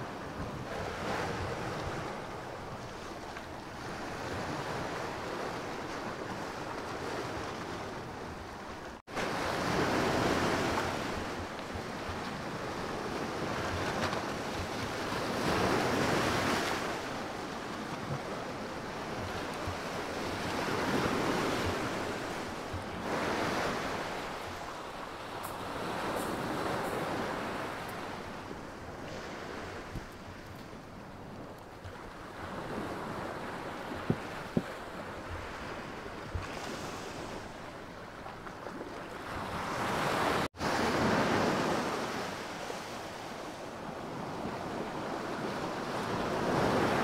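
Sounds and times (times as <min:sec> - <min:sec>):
wind on the microphone: 0:00.0 - 0:47.0.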